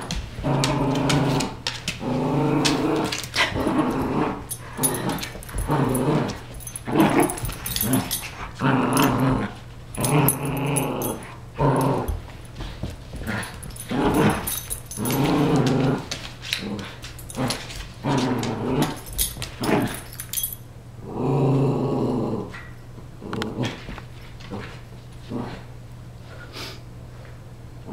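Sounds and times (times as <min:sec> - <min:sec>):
dog play-growling: 0:00.0 - 0:25.8.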